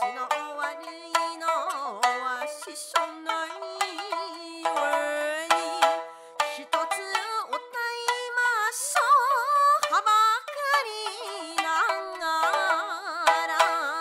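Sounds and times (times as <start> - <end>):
plucked shamisen: 0.0 - 14.0
woman singing folk song: 0.0 - 14.0.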